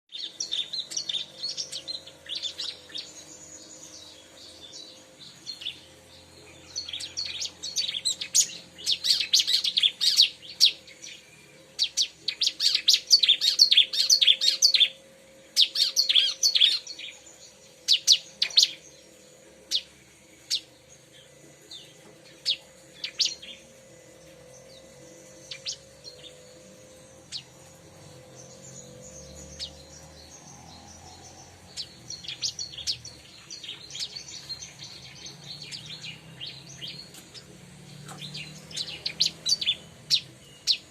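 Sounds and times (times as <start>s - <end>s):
bird rapid high chirping: 0.1s - 40.9s.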